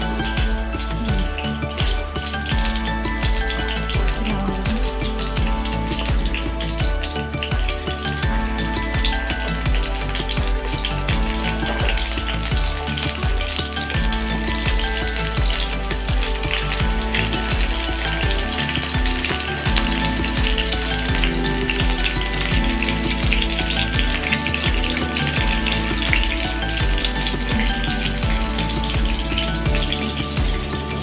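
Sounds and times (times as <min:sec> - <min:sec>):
background music: 0:00.0 - 0:31.0
chicken sizzling in hot oil: 0:00.0 - 0:31.0.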